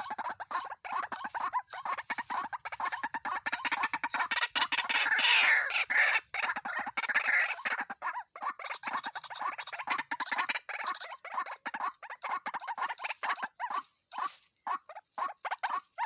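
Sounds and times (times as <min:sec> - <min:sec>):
waterhens calling harshly: 0:00.0 - 0:16.0.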